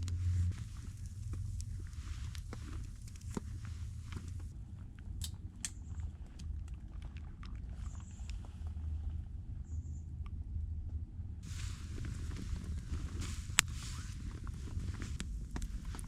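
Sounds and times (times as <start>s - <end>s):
wood fire crackling: 0.0s - 9.6s, 11.4s - 16.0s
low steady rumble: 0.0s - 16.0s.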